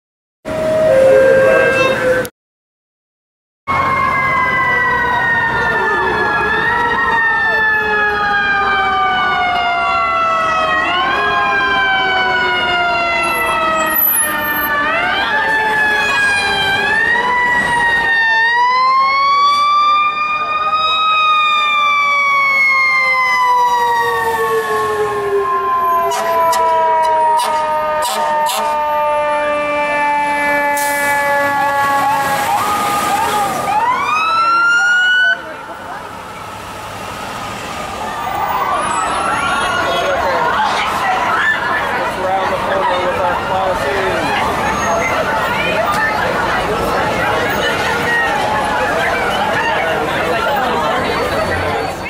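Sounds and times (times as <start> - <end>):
sirens wailing: 0.4 - 2.3, 3.7 - 52.0.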